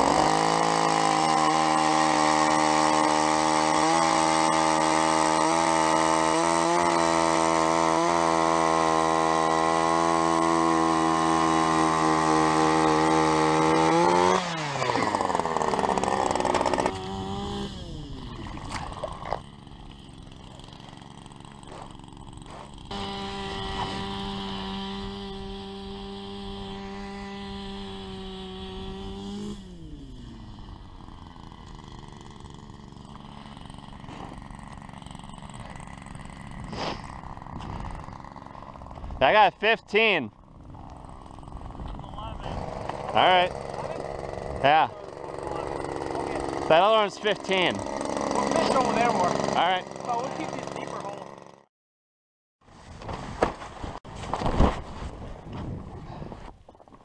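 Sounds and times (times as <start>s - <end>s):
power ice auger drilling: 0.0s - 51.7s.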